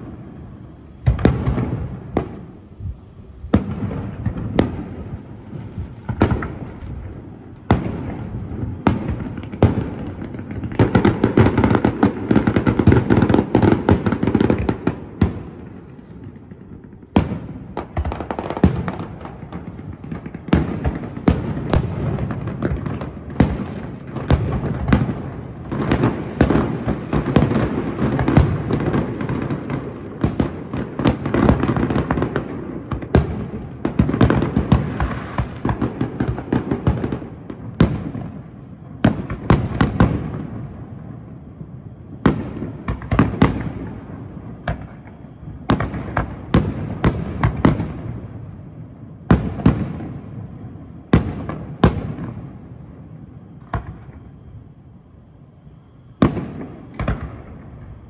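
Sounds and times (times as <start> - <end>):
fireworks bangs: 0.0 - 41.0, 41.6 - 48.4, 56.2 - 58.0
fireworks rumble and crackle: 0.0 - 58.0.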